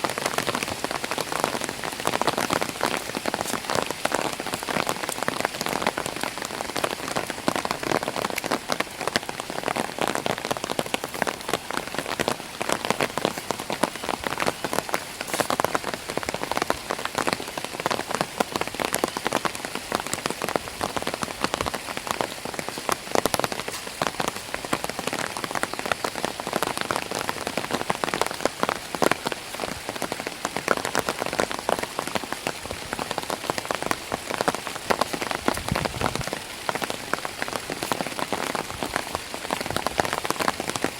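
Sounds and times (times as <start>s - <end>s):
rain pattering on umbrella: 0.0s - 40.9s.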